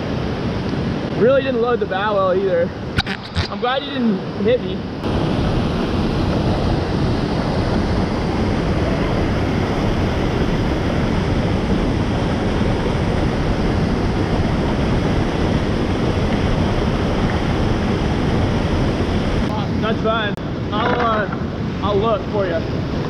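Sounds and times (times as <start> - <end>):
waterfall rushing: 2.7 - 23.0.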